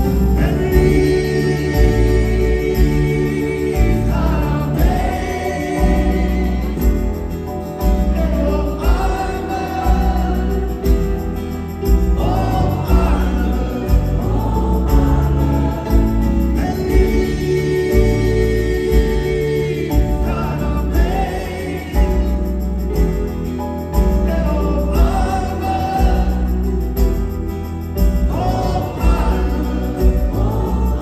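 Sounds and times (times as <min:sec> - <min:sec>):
person singing: 0:00.0 - 0:22.9, 0:24.0 - 0:27.2
live pop-rock band playing: 0:00.0 - 0:31.0.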